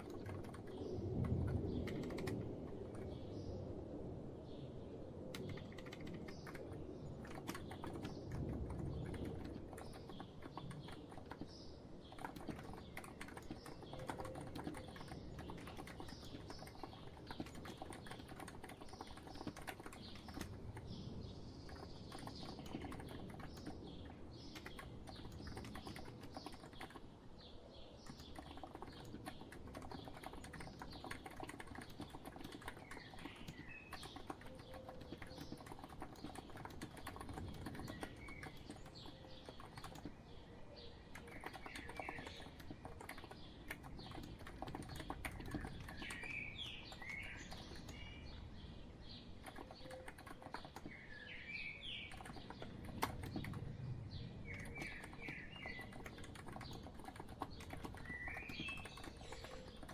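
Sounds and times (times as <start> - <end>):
soft keyboard typing: 0.0 - 3.3, 5.2 - 59.9
birds chirping: 5.4 - 59.9.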